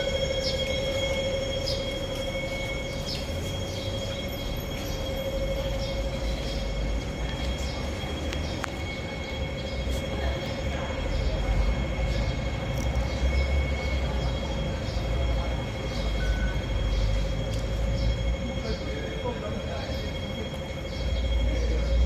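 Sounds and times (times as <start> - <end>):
train electric whine: 0.0 - 22.0.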